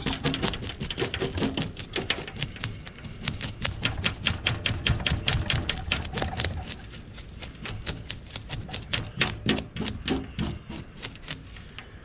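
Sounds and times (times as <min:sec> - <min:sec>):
knife cutting fish crackling: 0:00.0 - 0:11.6.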